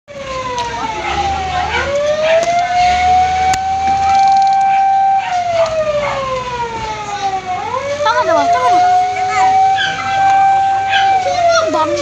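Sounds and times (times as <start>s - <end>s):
fire truck siren wailing: 0.1s - 12.0s
second siren wail: 0.1s - 12.0s.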